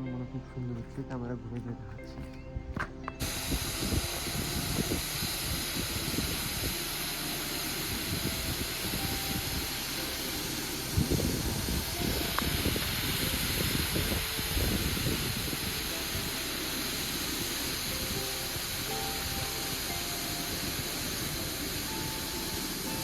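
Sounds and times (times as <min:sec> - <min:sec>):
wind buffeting microphone: 0:01.6 - 0:23.0
waterfall rushing: 0:03.2 - 0:23.0.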